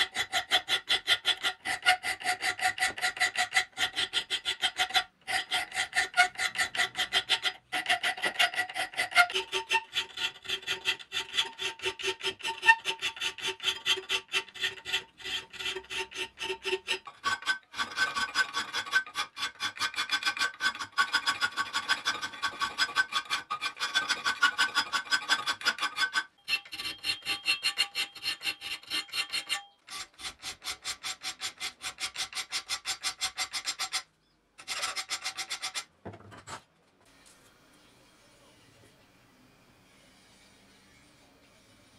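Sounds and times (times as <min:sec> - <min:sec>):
file rasping on steel: 0:00.0 - 0:35.9.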